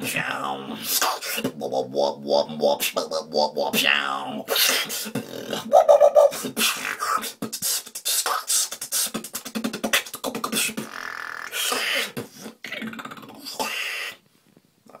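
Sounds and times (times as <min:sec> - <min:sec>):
person beatboxing: 0:00.0 - 0:14.2.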